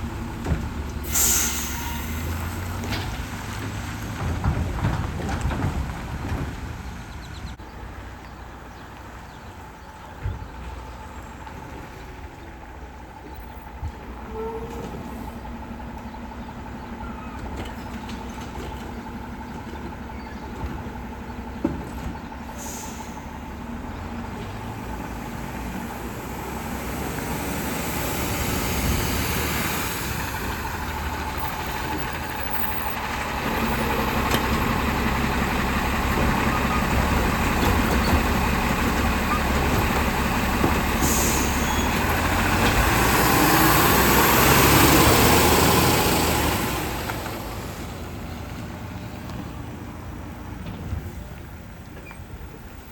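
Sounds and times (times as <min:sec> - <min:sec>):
garbage truck diesel engine running: 0:00.0 - 0:52.9.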